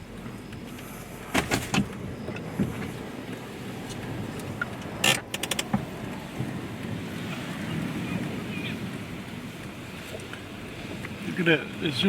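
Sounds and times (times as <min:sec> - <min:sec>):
wind rushing outside car: 0:00.0 - 0:12.0.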